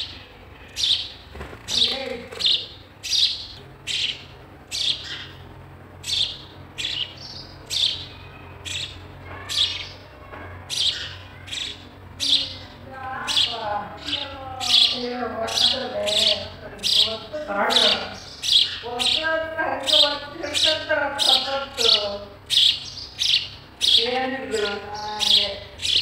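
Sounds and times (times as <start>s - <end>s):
sparrow chirping: 0.0s - 26.0s.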